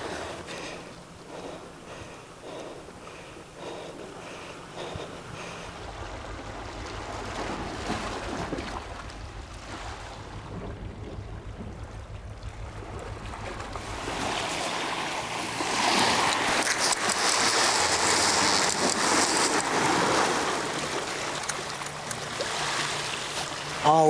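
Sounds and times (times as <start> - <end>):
waves splashing against rocks: 0.0 - 24.0.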